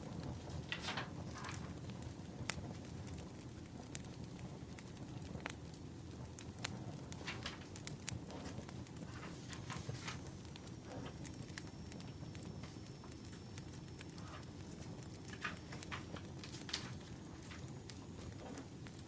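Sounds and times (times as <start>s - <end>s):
firewood crackling and popping: 0.0s - 19.0s
low fire rumble: 0.0s - 19.0s.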